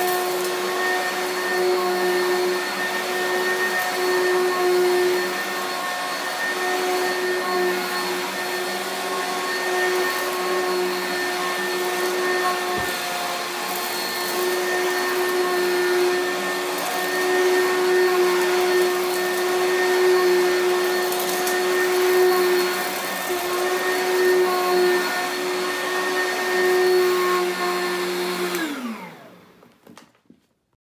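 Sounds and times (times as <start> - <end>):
vacuum cleaner running: 0.0 - 30.1.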